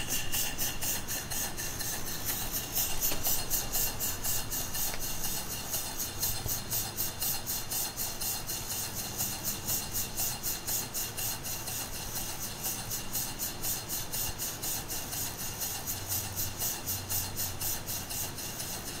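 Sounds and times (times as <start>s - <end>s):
steam engine exhaust puffing: 0.0s - 19.0s.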